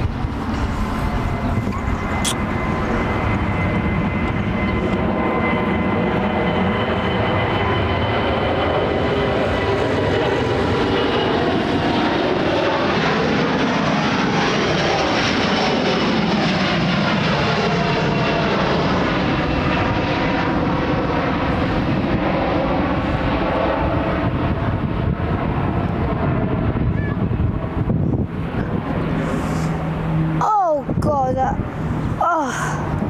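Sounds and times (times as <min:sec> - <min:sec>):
jet airliner passing overhead: 0:00.0 - 0:33.0.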